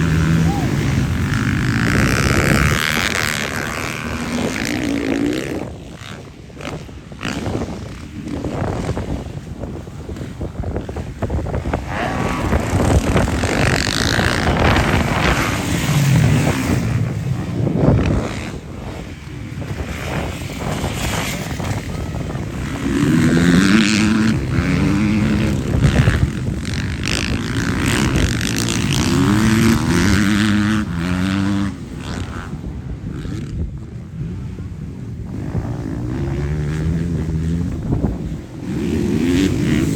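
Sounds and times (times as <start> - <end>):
motocross bikes revving past: 0.0 - 39.9.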